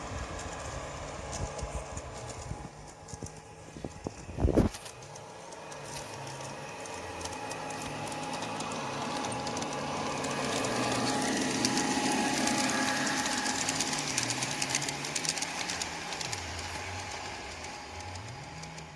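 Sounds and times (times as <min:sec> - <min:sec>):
diesel engine sound from speaker: 0:00.0 - 0:18.9
wheels ticking over track: 0:00.0 - 0:18.9.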